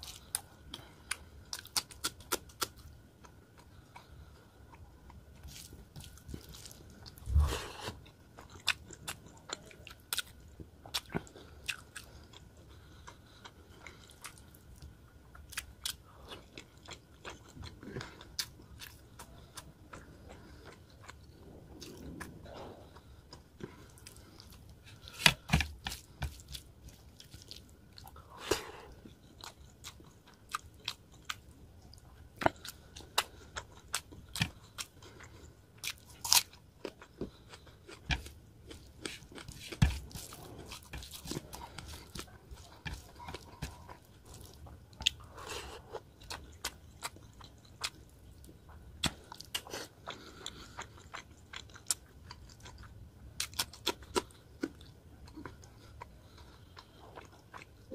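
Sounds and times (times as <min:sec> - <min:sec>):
chewing with mouth clicks: 0:00.0 - 0:57.9.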